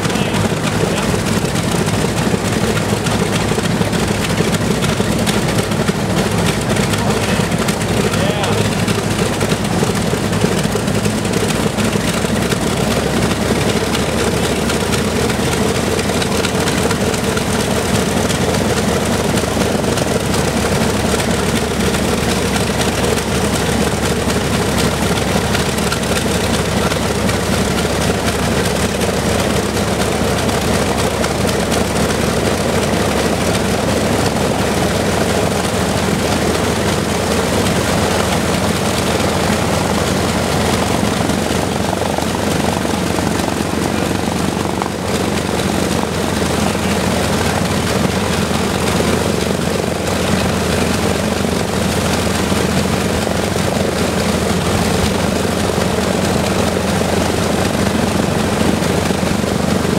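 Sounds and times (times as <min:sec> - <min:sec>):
propeller plane engines droning: 0:00.0 - 0:59.9.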